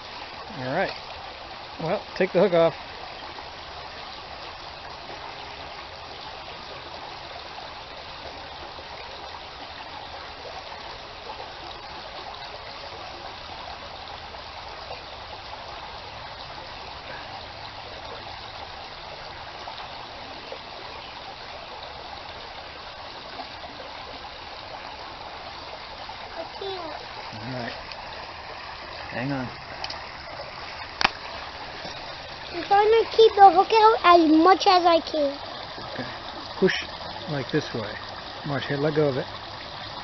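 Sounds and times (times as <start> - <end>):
creek water trickling: 0.0 - 40.0.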